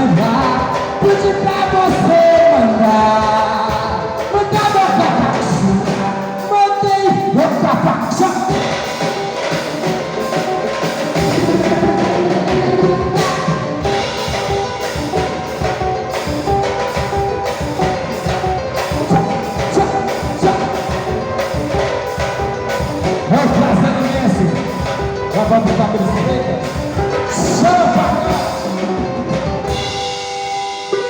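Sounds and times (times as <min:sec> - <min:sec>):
cavaquinho: 0:00.0 - 0:31.0
fast samba percussion beat: 0:00.0 - 0:31.0.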